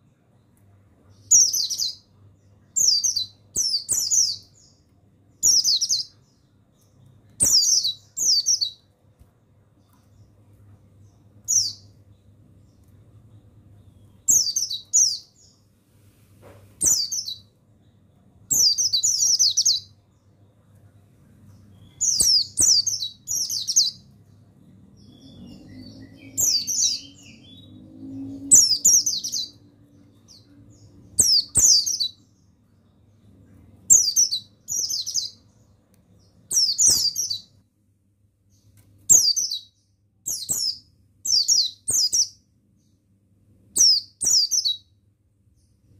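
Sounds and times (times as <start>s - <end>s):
faint low hum: 0.0s - 45.9s.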